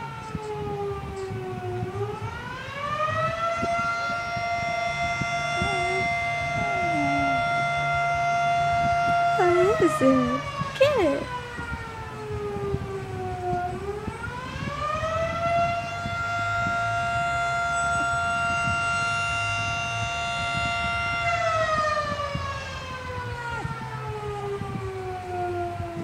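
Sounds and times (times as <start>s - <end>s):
fire siren wailing: 0.0s - 26.0s.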